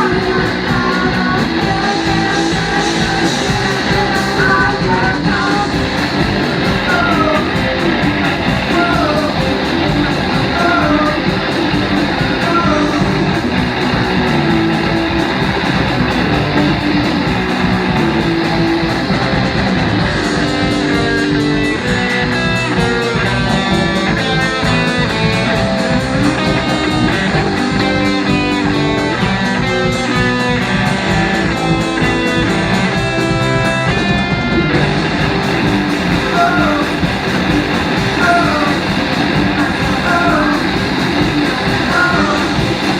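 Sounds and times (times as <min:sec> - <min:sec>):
electric guitar lead notes: 0:00.0 - 0:42.9
rock band playing: 0:00.0 - 0:42.9.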